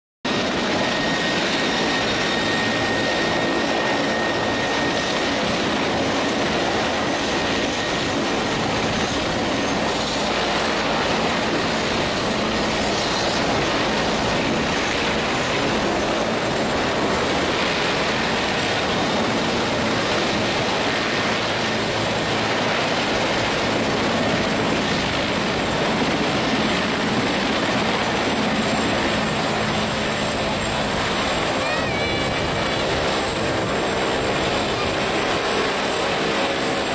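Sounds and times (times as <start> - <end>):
helicopter engines and rotor: 0.2 - 36.9
high turbine whine: 0.3 - 36.9.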